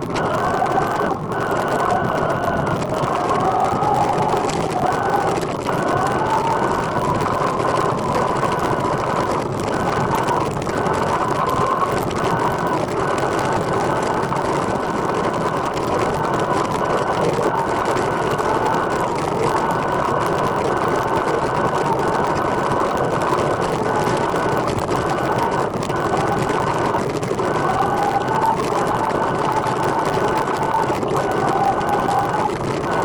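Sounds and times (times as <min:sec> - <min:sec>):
thin steady whine: 0:00.0 - 0:33.0
wind and tyre noise: 0:00.0 - 0:33.0.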